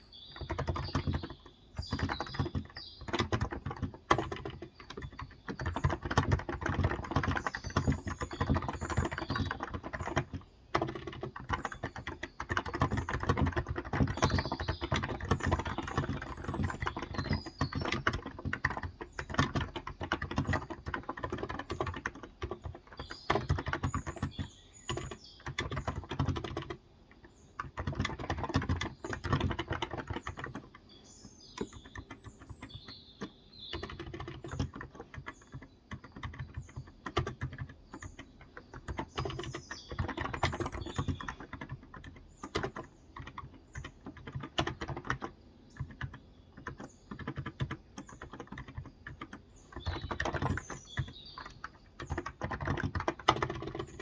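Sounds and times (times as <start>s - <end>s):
fast keyboard typing: 0.0s - 54.0s.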